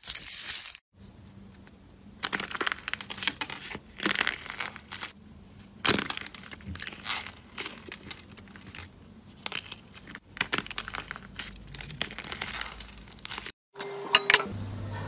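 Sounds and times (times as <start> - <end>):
dried slime crust crackling: 1.4 - 13.6.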